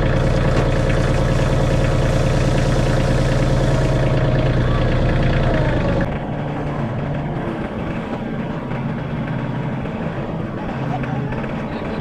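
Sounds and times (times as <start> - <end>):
heavy equipment engine running: 0.0 - 12.0.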